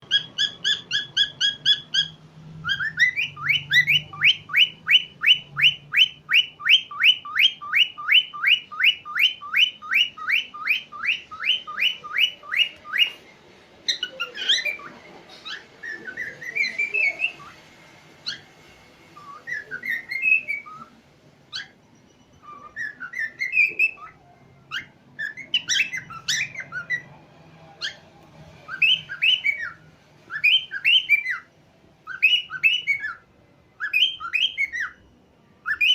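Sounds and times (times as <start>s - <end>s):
cockatiel whistling: 0.0s - 35.9s.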